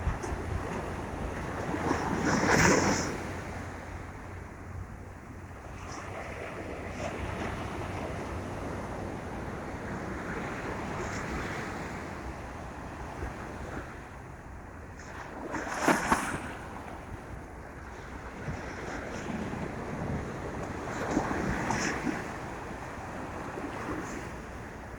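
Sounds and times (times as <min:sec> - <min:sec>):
ocean waves washing onto beach: 0:00.0 - 0:24.9
wind on microphone: 0:00.0 - 0:24.9.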